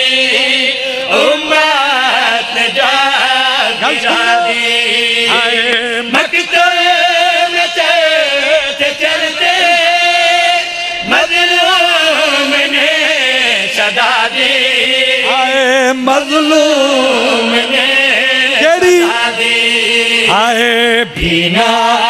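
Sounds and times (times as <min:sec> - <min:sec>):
men singing through loudspeakers: 0:00.0 - 0:22.0.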